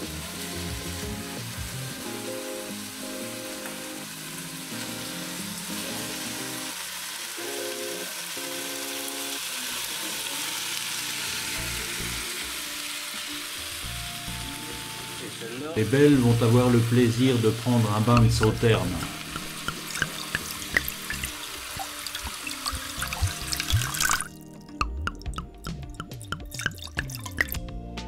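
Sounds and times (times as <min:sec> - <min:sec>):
meat sizzling in a casserole: 0:00.0 - 0:24.4
soft background music: 0:00.0 - 0:28.0.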